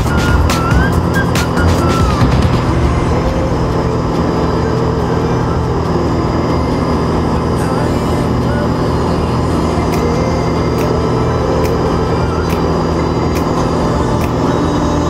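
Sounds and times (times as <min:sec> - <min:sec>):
plane propeller engine running: 0:00.0 - 0:15.0.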